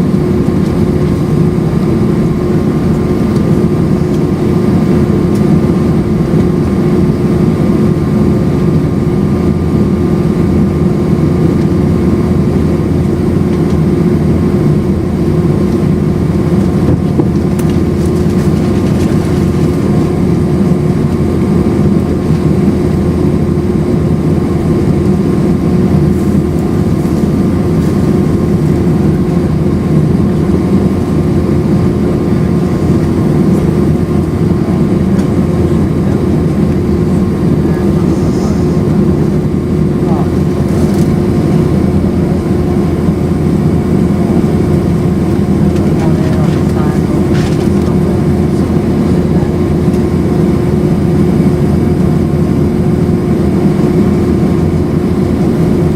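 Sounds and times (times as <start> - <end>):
jet engine roar in cabin: 0.0 - 55.9
steady hum: 0.0 - 55.9.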